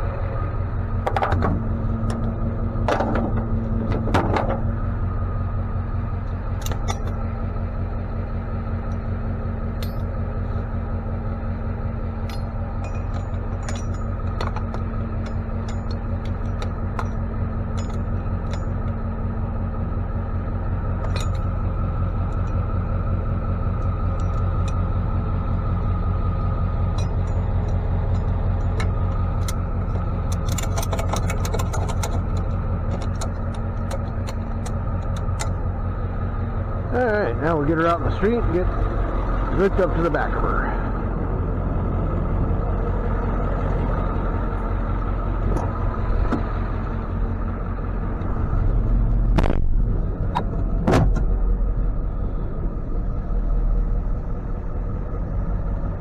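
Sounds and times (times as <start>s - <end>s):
truck engine humming: 0.0s - 56.0s.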